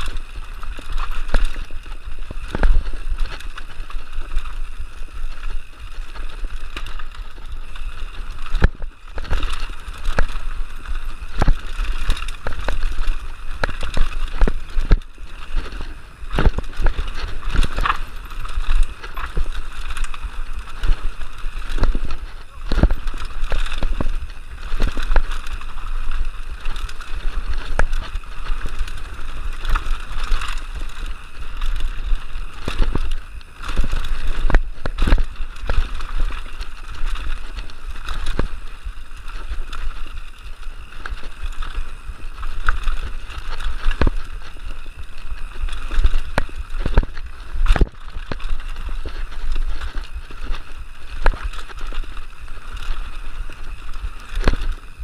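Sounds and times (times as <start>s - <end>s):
bike knocking and rattling: 0.0s - 55.0s
bike tyres on dirt: 0.0s - 55.0s.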